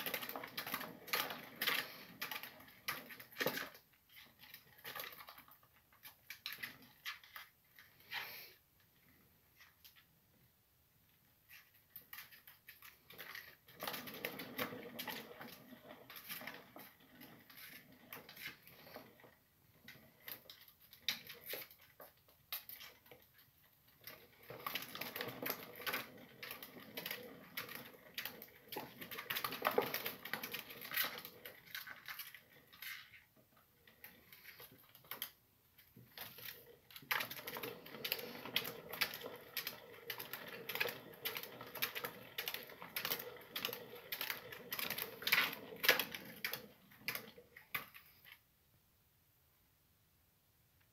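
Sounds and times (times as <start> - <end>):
exercise wheel clicking: 0.0 - 8.3, 11.6 - 48.4.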